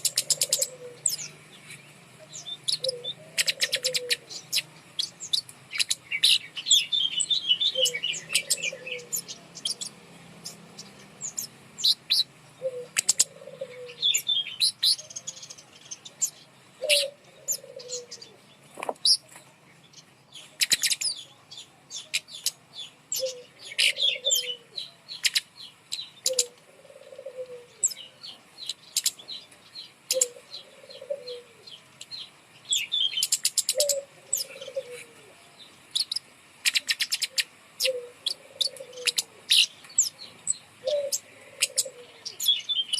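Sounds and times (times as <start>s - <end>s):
songbird chips and trills: 0.0s - 26.7s, 27.8s - 35.0s, 35.6s - 42.9s.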